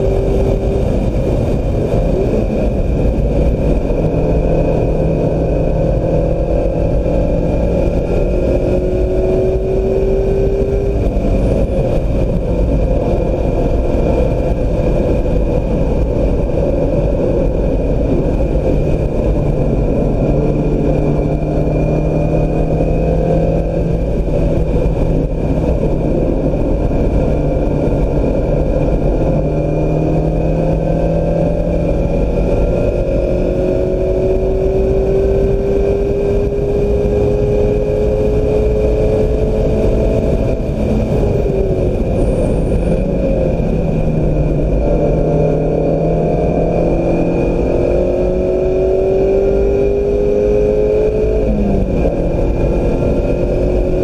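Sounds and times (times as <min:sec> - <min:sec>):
car engine revving hard: 0:00.0 - 0:54.0
road and wind noise: 0:00.0 - 0:54.0.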